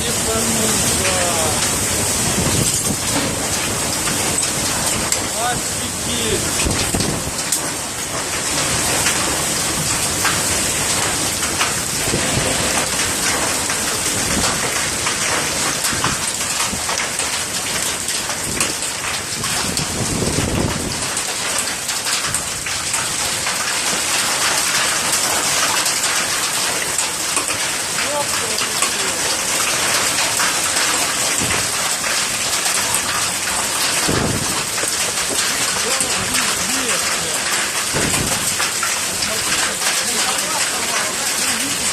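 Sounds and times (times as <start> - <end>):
hail and heavy rain: 0.0 - 41.9.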